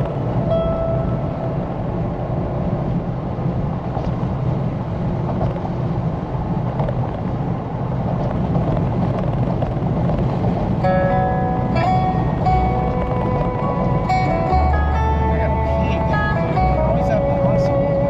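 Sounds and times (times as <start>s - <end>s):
low road rumble: 0.0s - 18.0s
tyre and wind noise: 0.0s - 18.0s.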